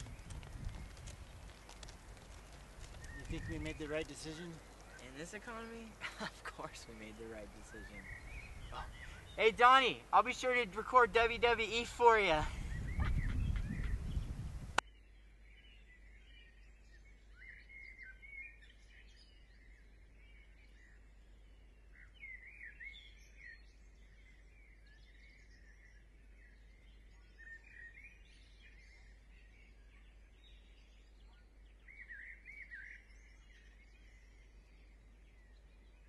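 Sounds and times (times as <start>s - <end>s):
faint birds chirping: 0.0s - 36.0s.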